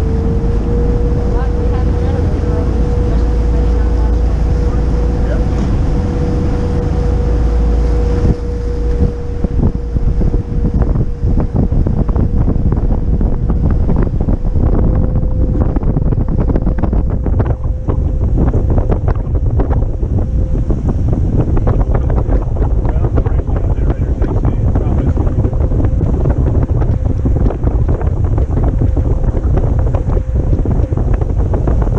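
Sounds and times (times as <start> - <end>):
heavy low rumble: 0.0 - 31.9
steady hum: 0.0 - 31.9
water splashing along hull: 0.0 - 31.9
wind buffeting microphone: 0.0 - 31.9.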